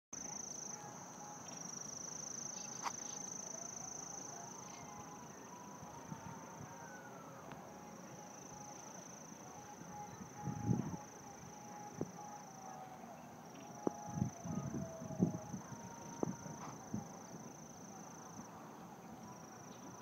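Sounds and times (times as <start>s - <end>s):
high-pitched insect trill: 0.2s - 20.0s.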